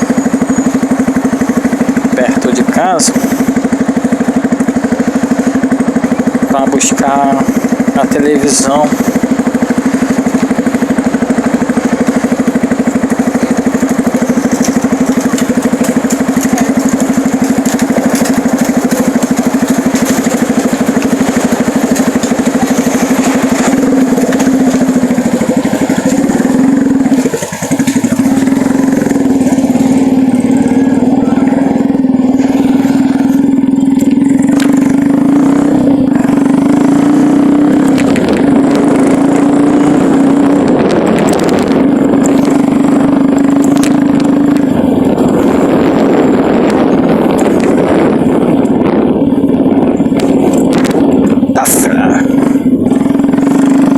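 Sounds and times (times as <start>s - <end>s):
vehicle engine humming: 0.0s - 53.9s.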